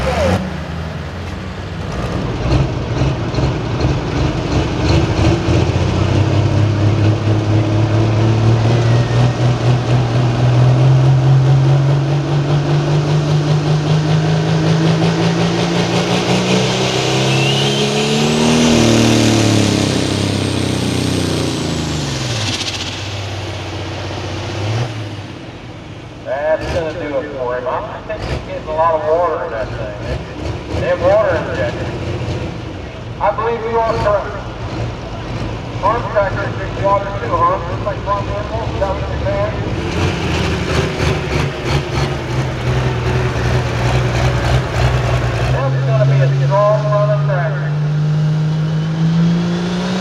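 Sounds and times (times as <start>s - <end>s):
diesel engine running under load: 0.0s - 49.7s.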